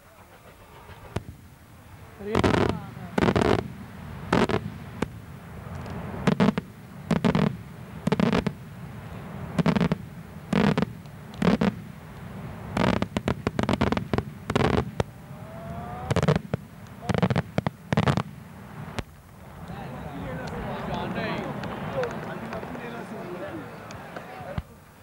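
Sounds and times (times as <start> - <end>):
rising firework whistle: 0.0 - 24.6
fireworks bangs: 0.0 - 25.0.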